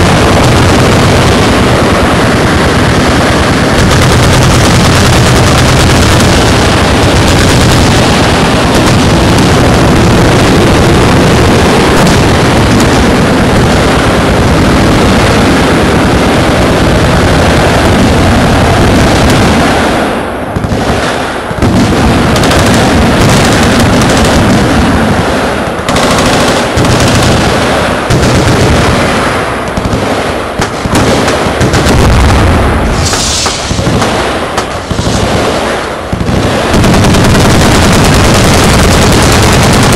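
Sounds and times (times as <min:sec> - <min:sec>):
machine guns firing: 0:00.0 - 0:39.9.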